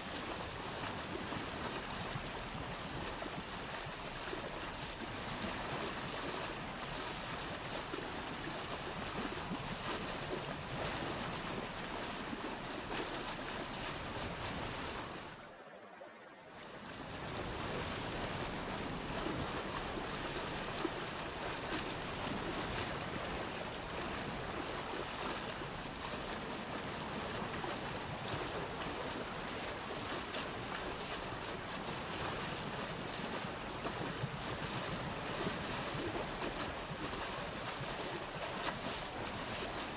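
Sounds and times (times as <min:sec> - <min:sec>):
water rushing through channels: 0:00.0 - 0:39.9.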